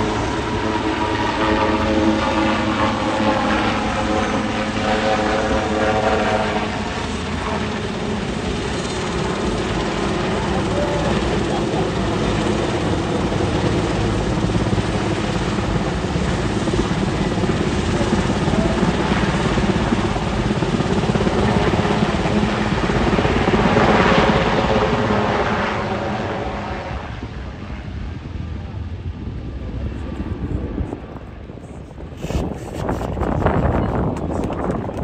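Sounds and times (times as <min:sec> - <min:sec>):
helicopter rotor and turbine: 0:00.0 - 0:35.0.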